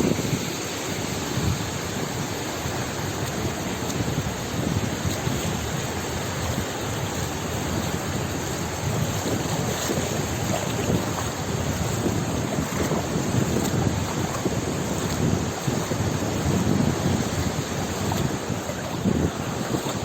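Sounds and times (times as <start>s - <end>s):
waves washing: 0.0s - 20.0s
wind blowing: 0.0s - 20.0s.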